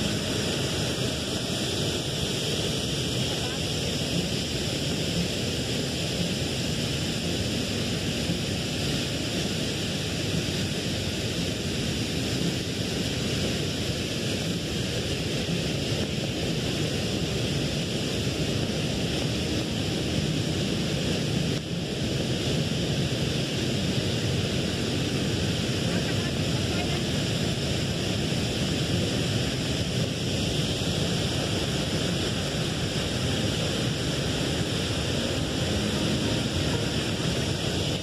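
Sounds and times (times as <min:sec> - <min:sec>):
rain falling: 0:00.0 - 0:38.0
waterfall roaring: 0:00.0 - 0:38.0.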